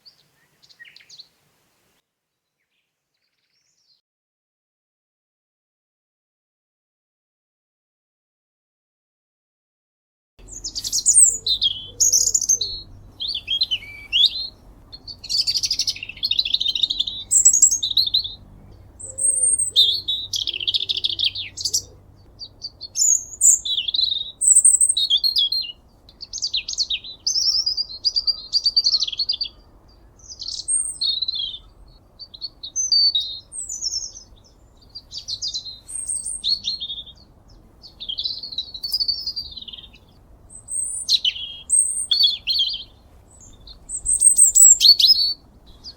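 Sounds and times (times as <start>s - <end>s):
songbird singing: 0.0s - 4.0s, 10.4s - 45.9s.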